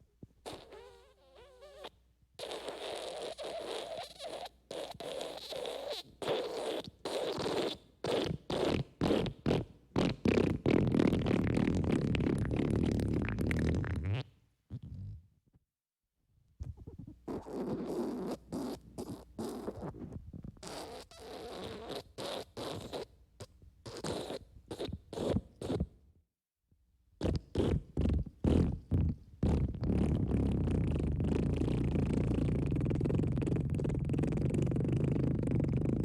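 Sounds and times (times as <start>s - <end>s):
wet sputtering fart bursts: 0.4s - 15.2s, 16.8s - 23.1s, 23.8s - 25.9s, 27.2s - 36.0s.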